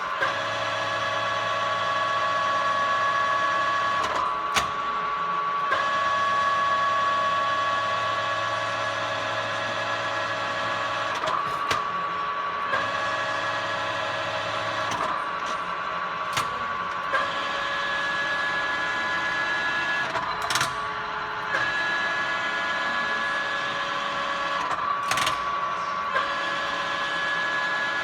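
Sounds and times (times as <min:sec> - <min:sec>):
milling machine whine and hum: 0:00.0 - 0:28.0.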